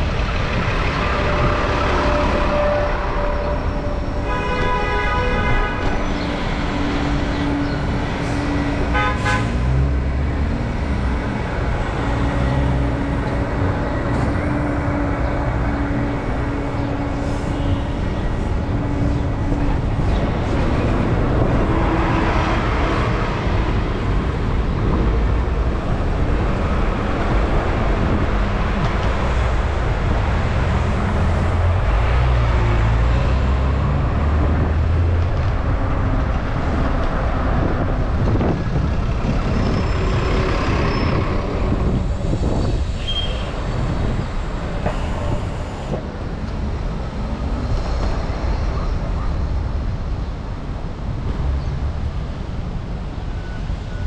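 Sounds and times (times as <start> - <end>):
passing vehicles: 0.0 - 54.0.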